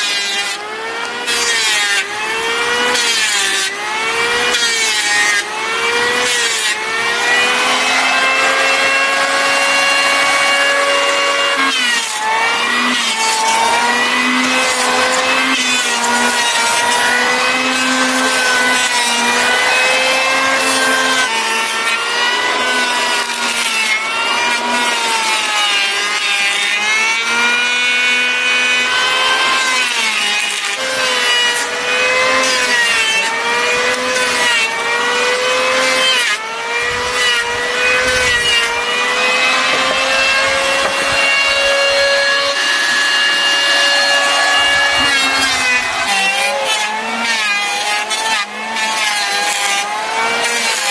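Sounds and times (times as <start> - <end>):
electric planer motor whine: 0.0 - 50.9.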